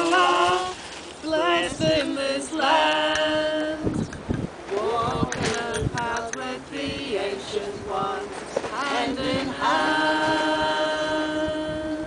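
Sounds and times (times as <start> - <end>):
group of voices singing: 0.0 - 4.1, 4.7 - 12.0.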